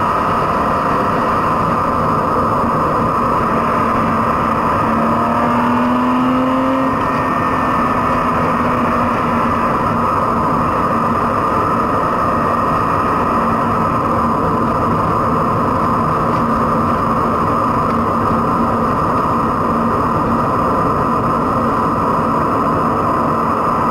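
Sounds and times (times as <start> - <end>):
muffled car engine drone: 0.0 - 23.9
tyre and road noise: 0.0 - 23.9.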